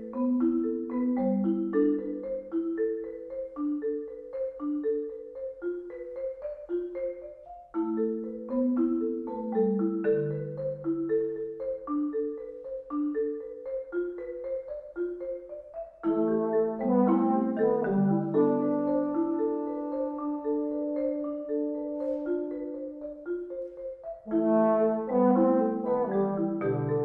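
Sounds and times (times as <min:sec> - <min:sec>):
marimba played with mallets: 0:00.0 - 0:27.0.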